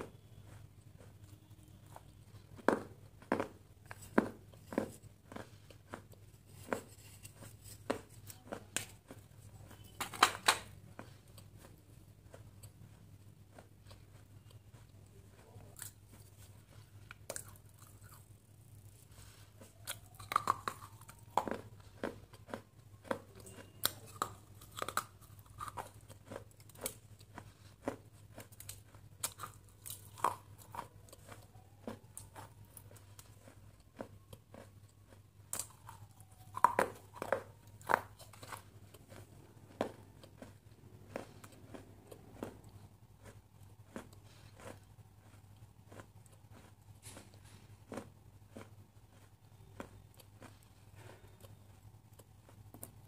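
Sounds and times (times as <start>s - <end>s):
crunchy food chewing: 0.0s - 53.0s.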